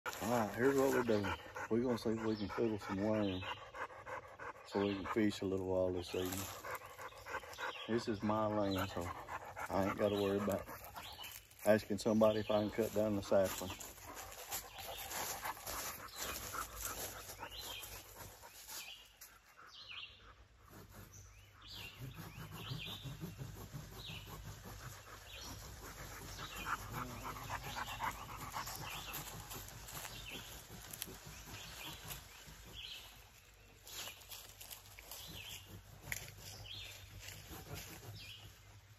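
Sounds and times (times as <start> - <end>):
dog panting: 0.1 - 38.7.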